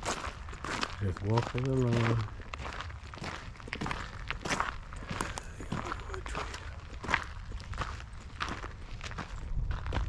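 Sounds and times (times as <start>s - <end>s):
footsteps on gravel: 0.0s - 10.0s.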